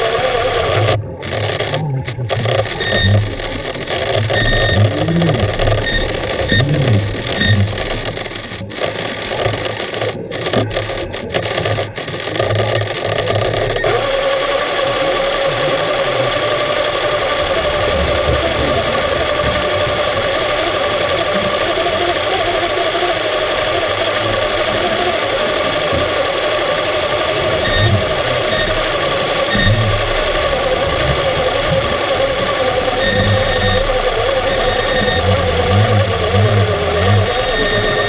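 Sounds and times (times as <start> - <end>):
scuba regulator bubbles: 0.0 - 38.0
underwater machine hum and hiss: 0.0 - 38.0.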